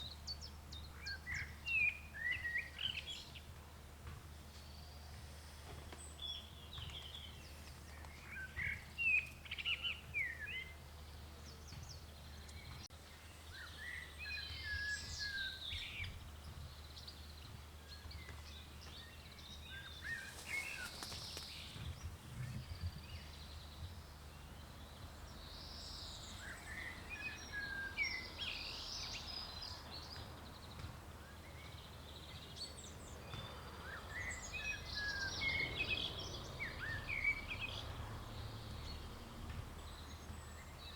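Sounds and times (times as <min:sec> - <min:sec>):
birds chirping and singing: 0:04.5 - 0:40.9.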